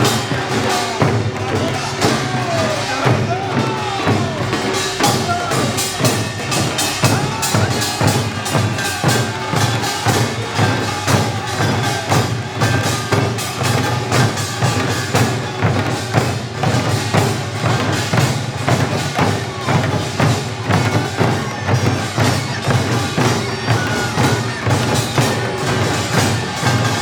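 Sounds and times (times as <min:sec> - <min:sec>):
gongs and drums rhythm: 0:00.0 - 0:27.0.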